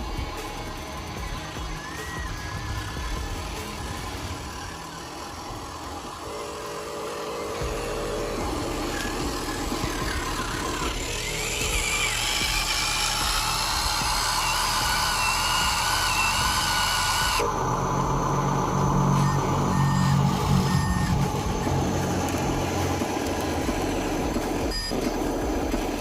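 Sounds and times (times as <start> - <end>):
deep steady engine hum: 0.0 - 26.0
electric motors whining: 0.0 - 26.0.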